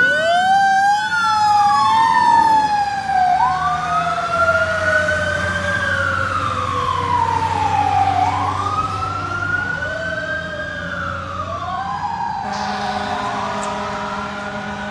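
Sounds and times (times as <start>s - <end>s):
fire truck siren wailing: 0.0s - 14.9s.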